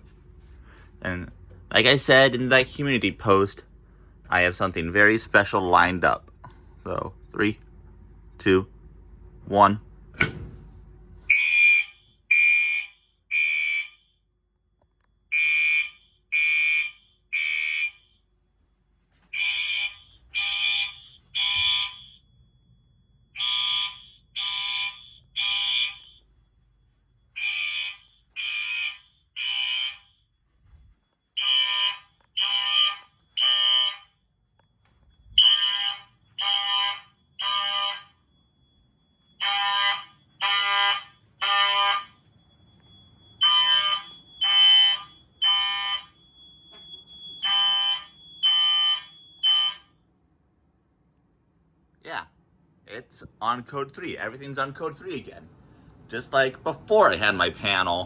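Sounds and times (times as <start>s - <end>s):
fire alarm horns blasting: 0.5s - 6.2s, 11.2s - 50.2s, 53.5s - 58.0s.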